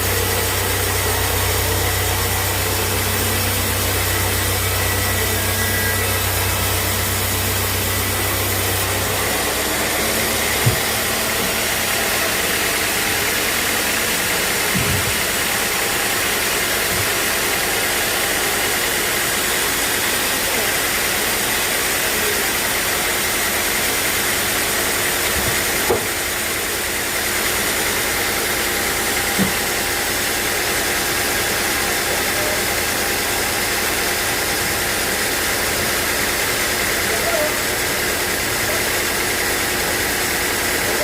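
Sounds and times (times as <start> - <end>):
sawmill machinery running: 0.0 - 41.0.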